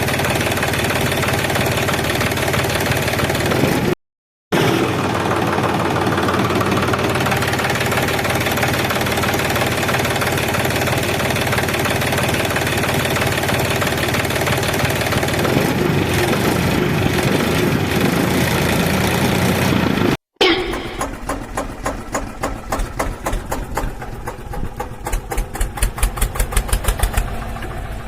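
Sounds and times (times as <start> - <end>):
tractor engine droning: 0.0 - 3.9, 4.5 - 28.0.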